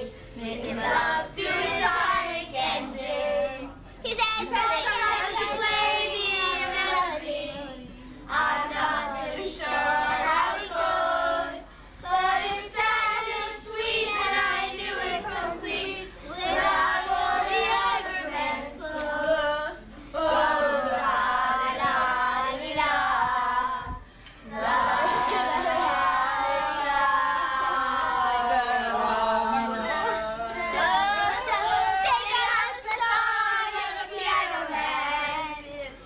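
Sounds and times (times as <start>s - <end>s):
children singing together: 0.0s - 36.0s.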